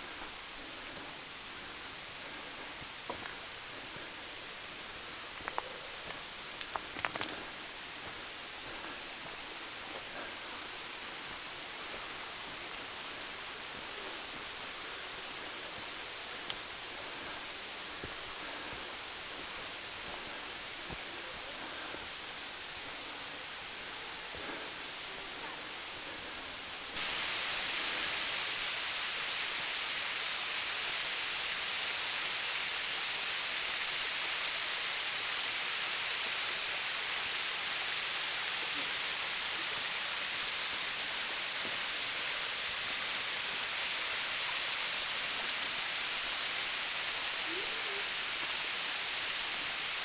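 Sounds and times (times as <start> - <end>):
small waterfall splashing: 0.0 - 50.0.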